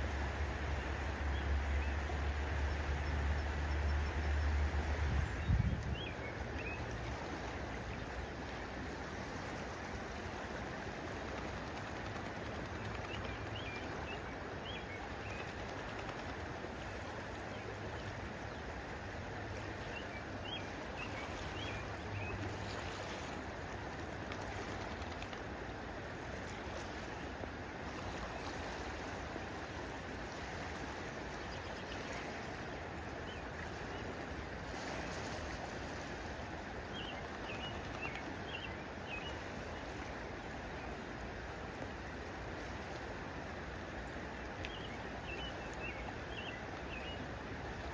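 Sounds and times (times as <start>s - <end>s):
flowing water rushing: 0.0s - 47.9s.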